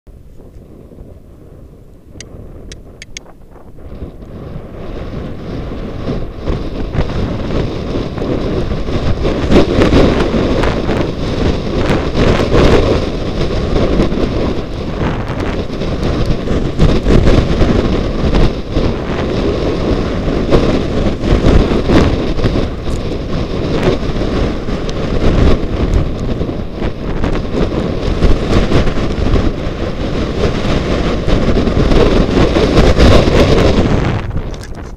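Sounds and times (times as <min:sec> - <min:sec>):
wind rushing over microphone: 0:00.1 - 0:34.9
skis scraping over crusted snow: 0:03.8 - 0:34.9.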